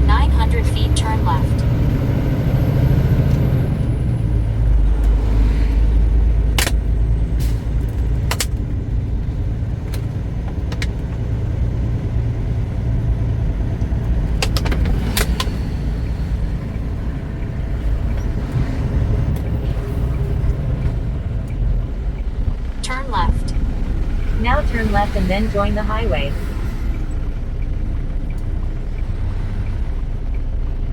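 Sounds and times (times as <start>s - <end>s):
truck engine and road noise: 0.0s - 30.9s.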